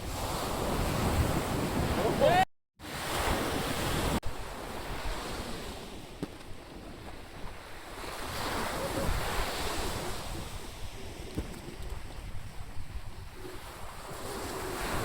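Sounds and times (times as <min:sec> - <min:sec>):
wind buffeting microphone: 0:00.0 - 0:02.4, 0:03.0 - 0:15.0
surf breaking on a beach: 0:00.0 - 0:15.0.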